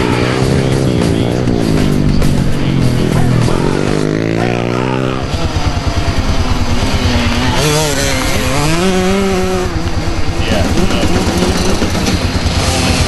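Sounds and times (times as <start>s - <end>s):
dirt bike passing: 0.0s - 13.0s
dirt bike revving: 0.0s - 13.0s.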